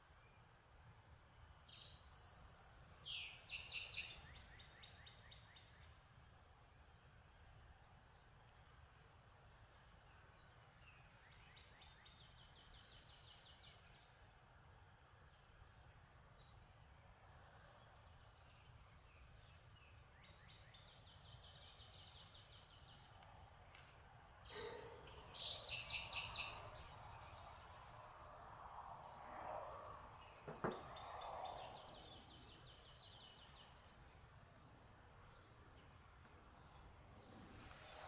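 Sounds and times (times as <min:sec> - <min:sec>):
songbirds singing: 0:01.6 - 0:08.8, 0:09.5 - 0:14.4, 0:15.2 - 0:38.0.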